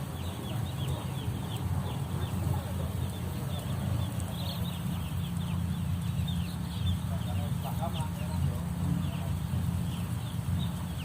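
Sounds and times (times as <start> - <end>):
chickens peeping: 0.0 - 11.0.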